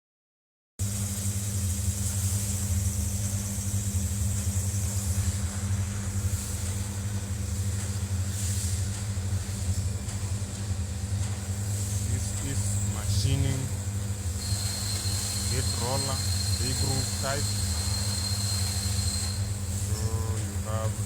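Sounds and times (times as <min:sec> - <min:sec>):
lathe running with high whine: 0:00.9 - 0:21.0.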